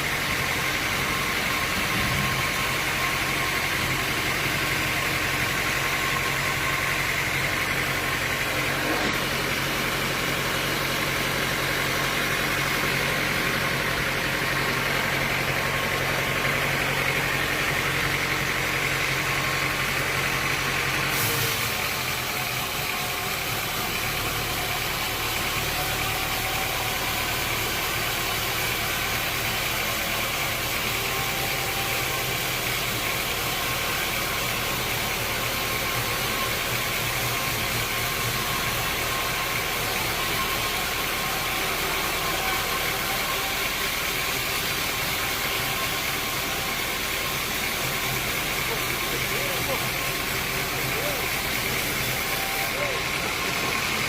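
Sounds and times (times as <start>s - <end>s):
sawmill machinery motor hum: 0.0s - 54.0s.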